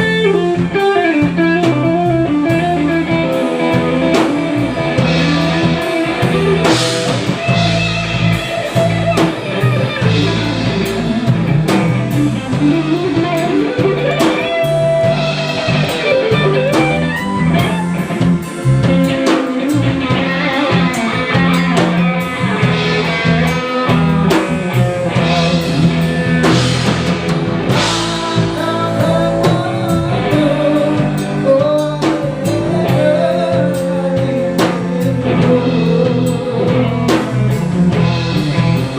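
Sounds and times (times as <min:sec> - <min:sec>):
bass: 0:00.0 - 0:38.9
drum kit: 0:00.0 - 0:38.9
guitar melody: 0:00.0 - 0:38.9.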